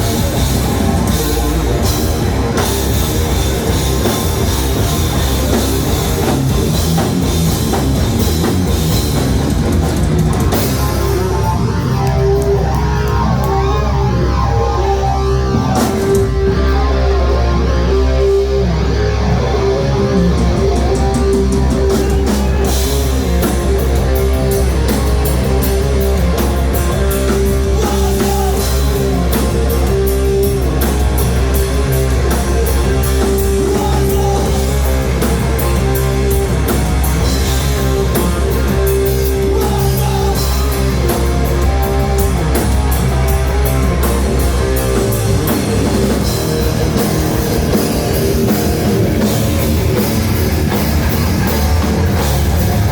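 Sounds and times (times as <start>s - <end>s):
drum kit with cymbal hits: 0.0s - 13.7s, 15.5s - 16.8s, 20.4s - 52.9s
bass guitar: 0.0s - 52.9s
distorted electric guitars: 0.0s - 52.9s.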